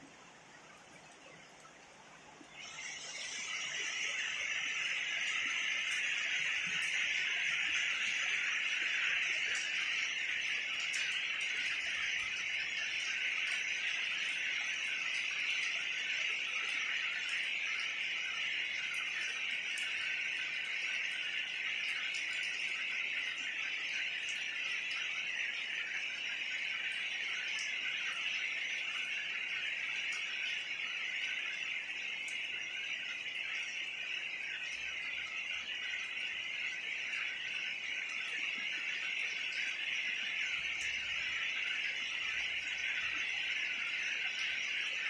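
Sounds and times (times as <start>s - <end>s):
night insects chorus: 2.4s - 45.0s.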